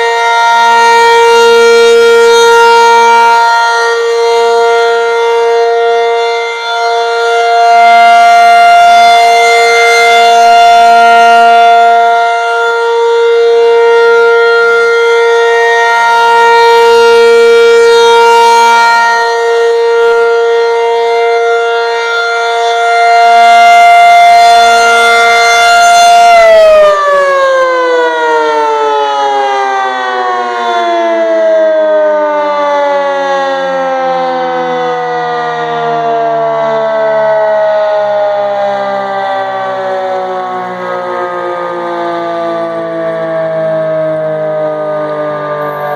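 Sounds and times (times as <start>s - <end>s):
warning siren alert tone: 0.0s - 45.9s.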